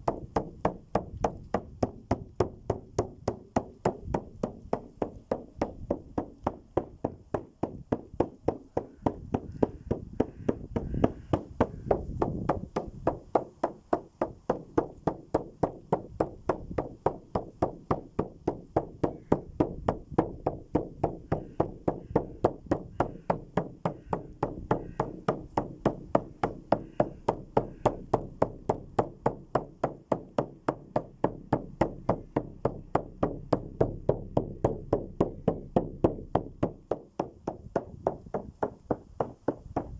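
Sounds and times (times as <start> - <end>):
steady even knocking: 0.0 - 39.9.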